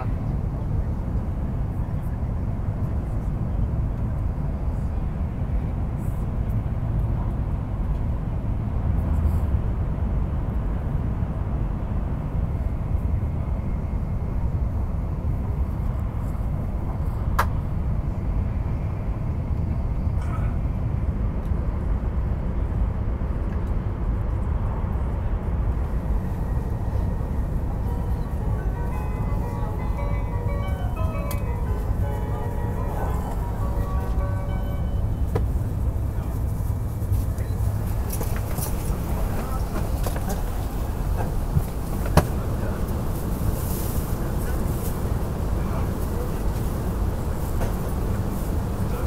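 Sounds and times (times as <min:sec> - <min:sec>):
train running at speed: 0:00.0 - 0:49.0.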